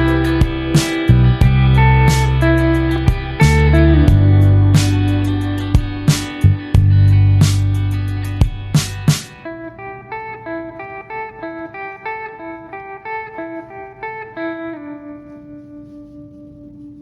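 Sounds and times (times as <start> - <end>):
guitar picking single notes: 0.0 - 17.0.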